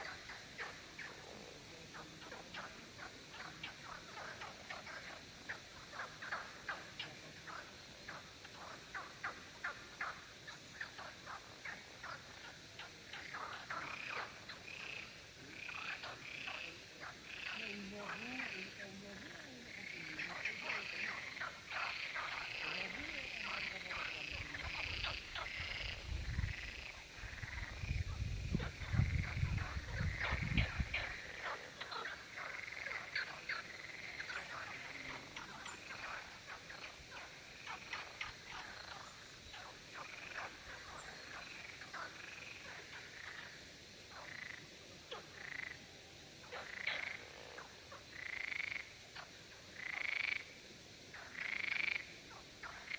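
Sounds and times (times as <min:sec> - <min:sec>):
frogs croaking in chorus: 0:00.0 - 0:52.9.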